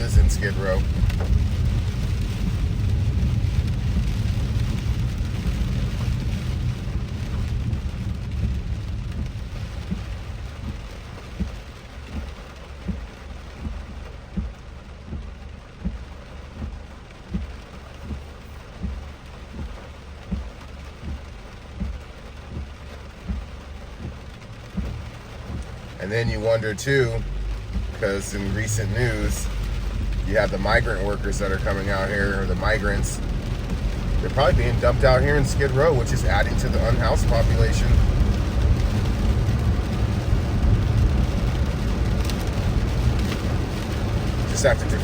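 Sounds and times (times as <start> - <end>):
low road rumble: 0.0 - 45.0
rain on a car: 0.0 - 45.0.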